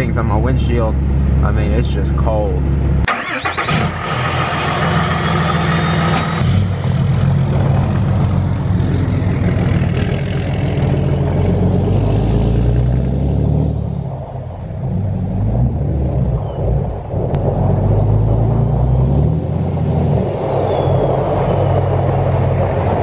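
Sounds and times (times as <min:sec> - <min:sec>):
diesel truck engine accelerating: 0:02.8 - 0:23.0.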